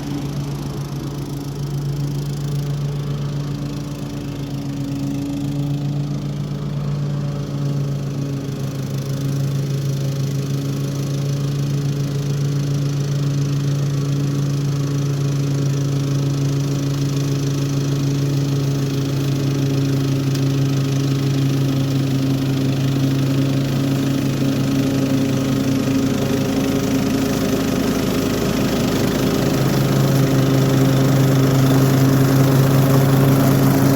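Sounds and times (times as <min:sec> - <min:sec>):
lawn mower engine running: 0:00.0 - 0:33.9.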